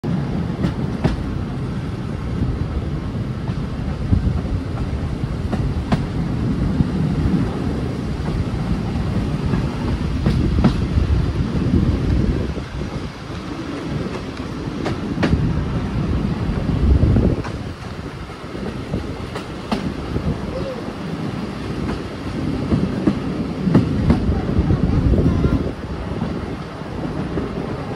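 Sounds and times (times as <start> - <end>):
train rumbling: 0.0 - 27.9.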